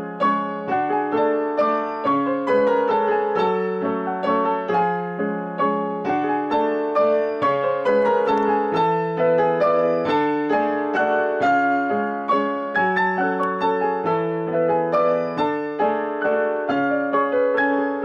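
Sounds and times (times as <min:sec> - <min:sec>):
piano playing: 0:00.0 - 0:18.0.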